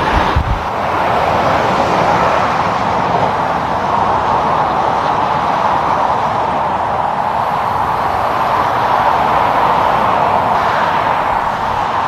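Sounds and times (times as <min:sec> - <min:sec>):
road traffic passing: 0:00.0 - 0:12.0
tyres rushing on pavement: 0:00.0 - 0:12.0.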